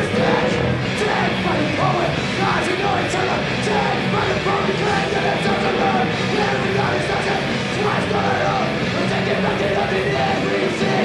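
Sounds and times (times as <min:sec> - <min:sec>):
punk rock band playing live: 0:00.0 - 0:11.0.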